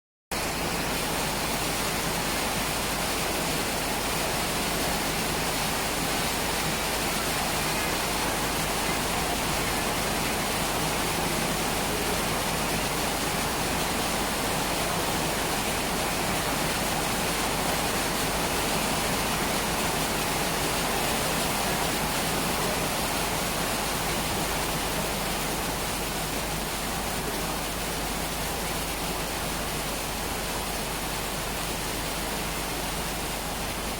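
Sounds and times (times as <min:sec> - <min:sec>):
steady rain falling: 0:00.3 - 0:33.9.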